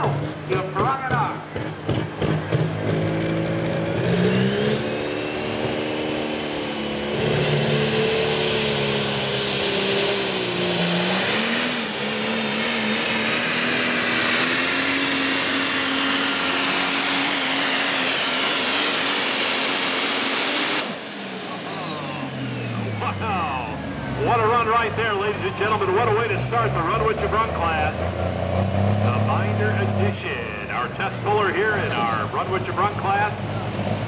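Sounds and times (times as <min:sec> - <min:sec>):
diesel truck engine roaring: 0:00.0 - 0:34.0.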